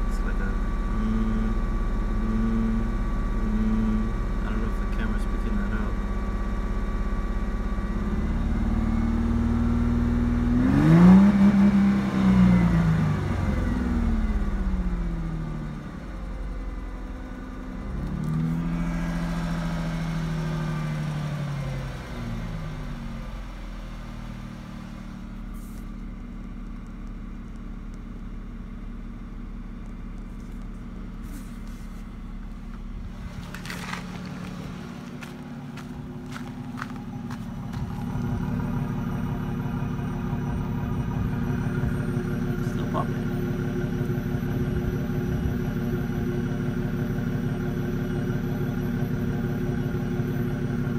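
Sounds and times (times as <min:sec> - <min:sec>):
car engine revving and idling: 0:00.0 - 0:50.9.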